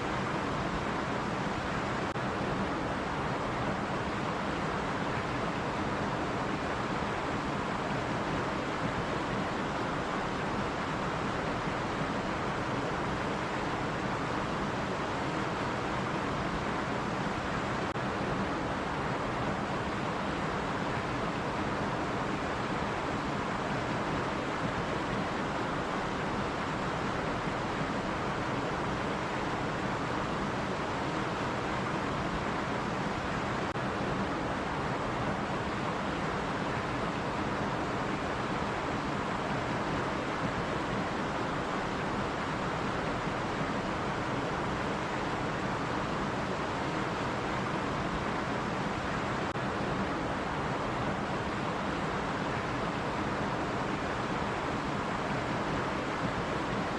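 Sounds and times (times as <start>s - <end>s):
stream water over rocks: 0.0s - 56.9s.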